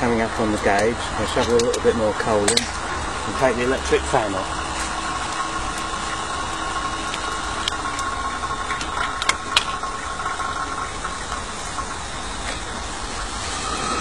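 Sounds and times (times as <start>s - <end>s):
electric fan whine and hiss: 0.0s - 14.0s.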